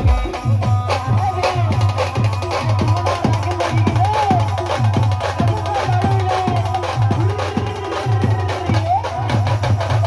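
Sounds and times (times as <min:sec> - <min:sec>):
driving drum beat: 0:00.0 - 0:10.0.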